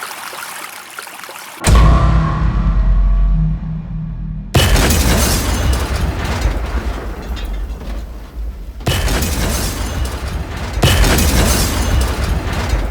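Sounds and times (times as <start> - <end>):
loud dense rumbling noise: 1.7 - 12.9.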